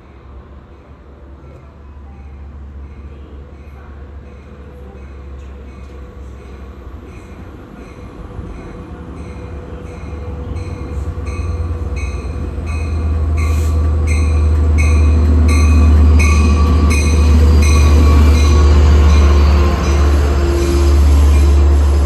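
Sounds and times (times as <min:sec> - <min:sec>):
diesel locomotive engine rumble: 0:00.0 - 0:22.0
locomotive bell ringing: 0:02.2 - 0:21.8.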